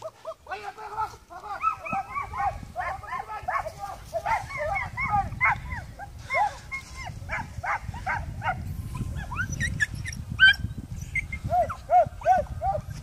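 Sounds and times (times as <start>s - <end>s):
dogs baying and yelping: 0.0s - 0.5s, 1.5s - 13.0s.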